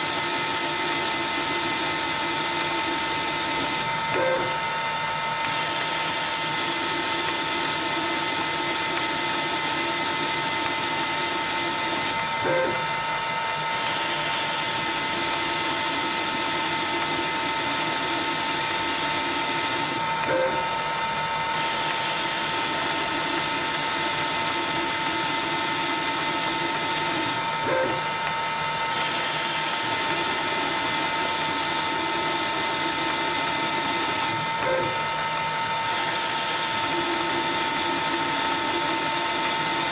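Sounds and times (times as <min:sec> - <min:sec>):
lathe running with a whine: 0:00.0 - 0:39.9.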